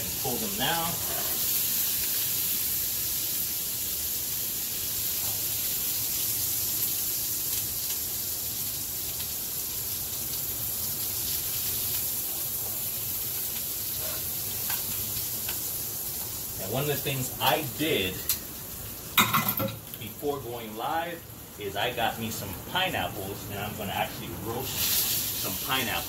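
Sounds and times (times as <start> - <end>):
vegetables sizzling in a skillet: 0.0 - 26.0.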